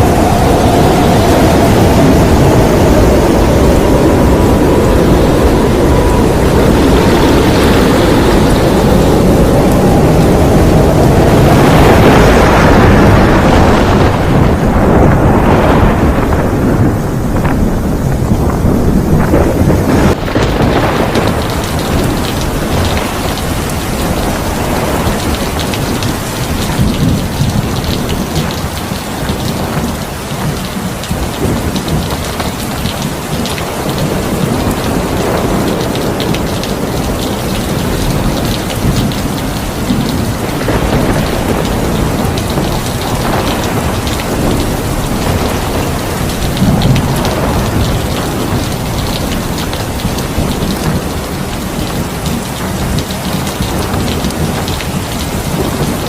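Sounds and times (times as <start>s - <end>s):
heavy rain falling: 0.0s - 56.0s
thunder rumbling: 0.0s - 56.0s.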